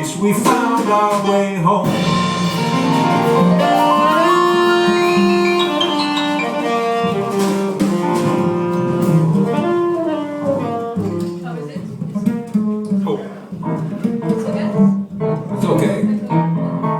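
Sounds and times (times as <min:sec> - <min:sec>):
instrumental music: 0:00.0 - 0:16.9.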